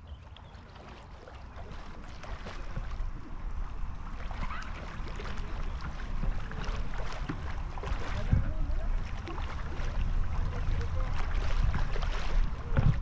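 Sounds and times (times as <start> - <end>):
sea water sloshing: 0.0 - 13.0
small splashes: 0.0 - 13.0
low microphone rumble: 1.4 - 13.0.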